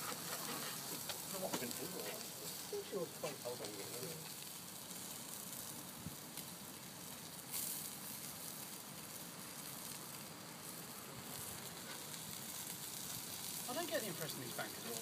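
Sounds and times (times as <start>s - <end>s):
crackles: 0.0s - 15.0s
meat sizzling on a grill: 0.0s - 15.0s.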